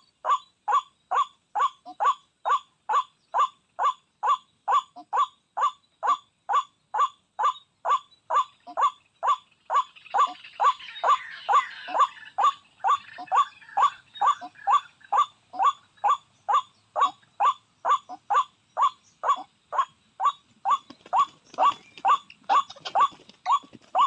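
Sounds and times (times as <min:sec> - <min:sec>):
waterhen call: 0:00.0 - 0:24.0.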